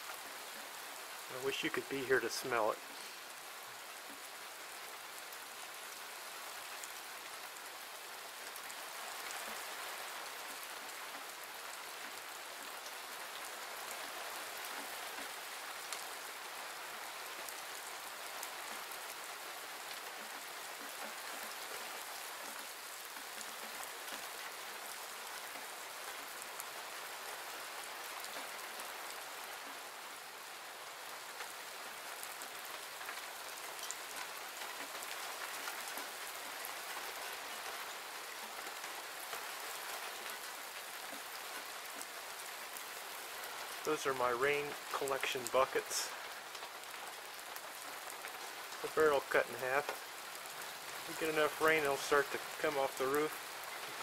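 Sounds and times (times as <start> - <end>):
rain on stone and gravel: 0.0 - 54.0.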